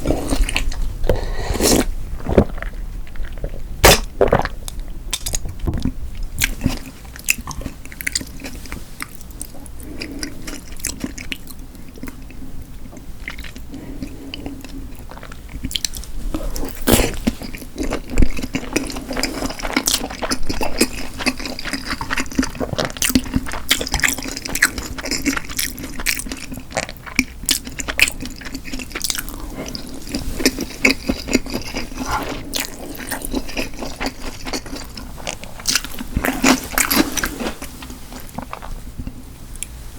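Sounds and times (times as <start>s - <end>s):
person chewing food: 0.0s - 39.7s.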